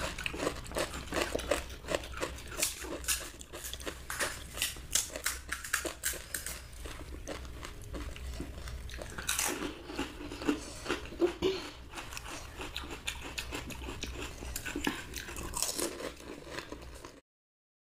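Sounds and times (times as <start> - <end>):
crunching and chewing: 0.0 - 17.2.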